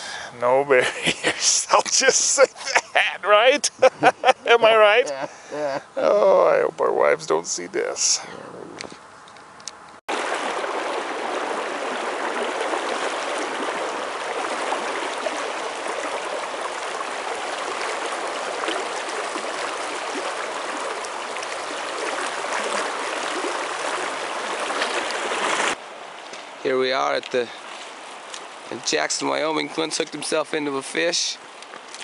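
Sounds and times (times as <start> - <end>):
rushing river water: 1.0 - 5.8, 10.1 - 32.0.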